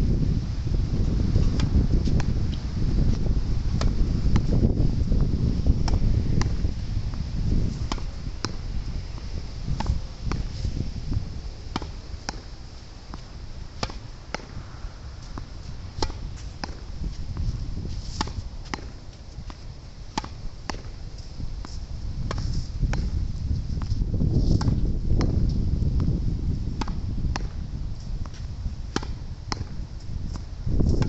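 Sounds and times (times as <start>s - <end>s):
wind rumbling on microphone: 0.0s - 31.0s
tennis ball hitting racket and wall: 1.0s - 31.0s.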